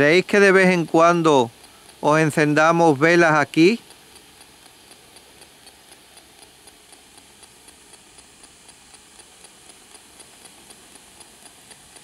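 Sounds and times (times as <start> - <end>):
light ticks: 0.0 - 12.0.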